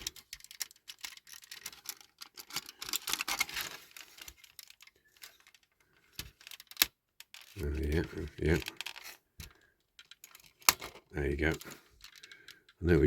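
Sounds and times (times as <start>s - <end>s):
plastic model parts clicking: 0.0s - 12.8s.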